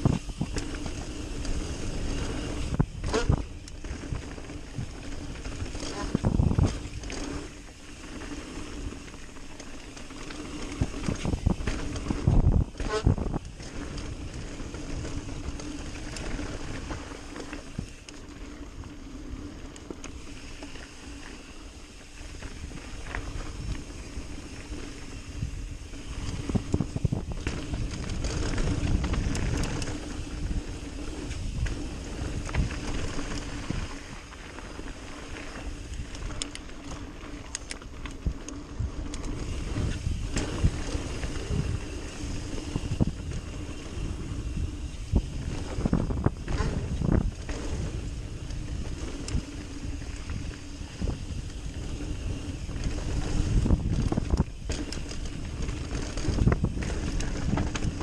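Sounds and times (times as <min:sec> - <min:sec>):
wind on microphone: 0:00.0 - 0:07.6, 0:10.5 - 0:18.0, 0:22.3 - 0:58.0
bike rattling and knocking: 0:00.0 - 0:58.0
bike tyres running over dirt: 0:00.0 - 0:58.0.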